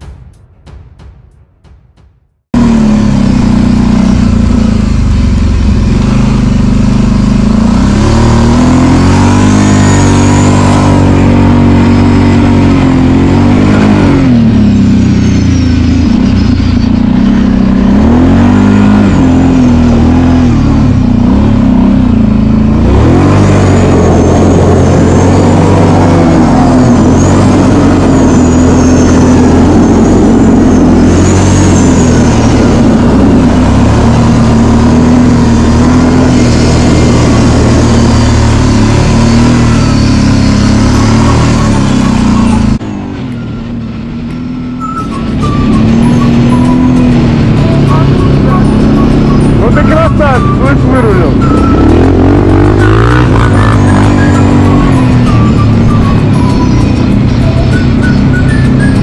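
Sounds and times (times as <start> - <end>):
atv engine revving: 2.6 - 43.1, 43.7 - 59.0.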